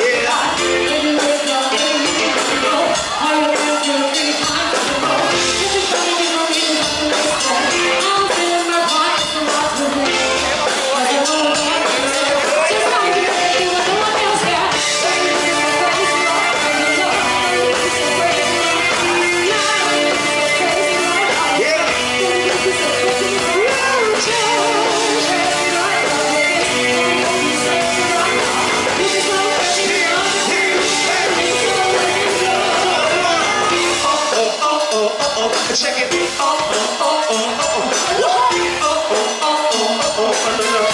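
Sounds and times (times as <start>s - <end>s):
band playing upbeat song: 0.0s - 40.9s
person singing: 0.0s - 40.9s.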